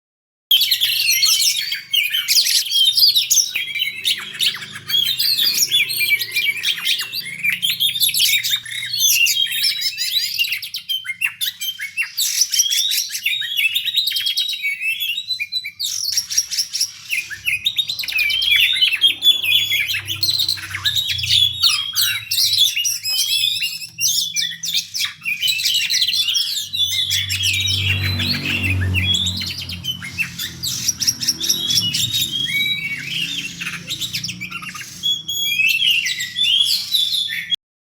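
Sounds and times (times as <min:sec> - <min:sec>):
bird singing rapid chirps: 0:00.5 - 0:37.6.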